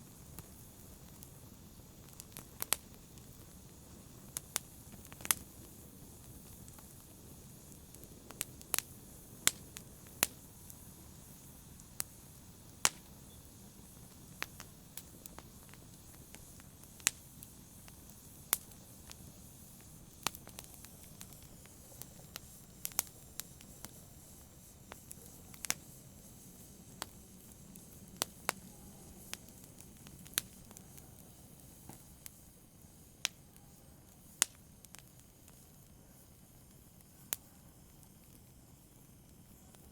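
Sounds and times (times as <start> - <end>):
campfire hissing and crackling: 0.0 - 39.9.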